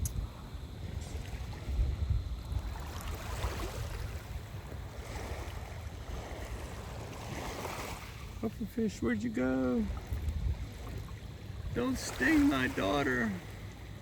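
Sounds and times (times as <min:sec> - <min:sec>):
small waves washing on shore: 0:00.0 - 0:14.0
wind buffeting microphone: 0:00.0 - 0:14.0.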